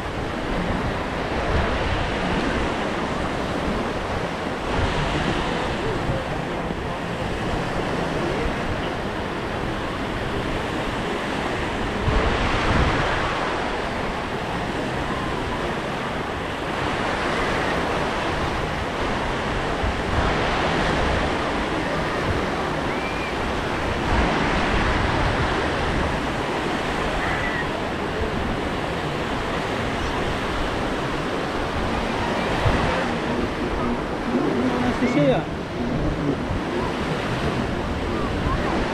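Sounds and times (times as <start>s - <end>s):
small waves breaking on shore: 0.0s - 38.9s
wind buffeting microphone: 0.0s - 38.9s.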